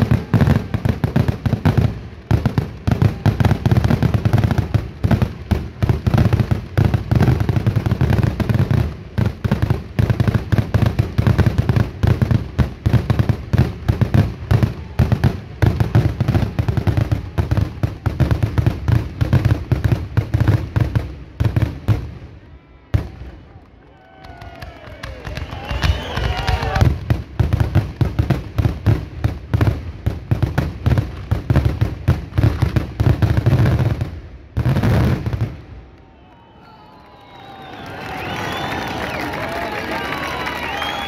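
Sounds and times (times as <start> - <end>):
fireworks banging: 0.0 - 22.2, 24.3 - 41.0.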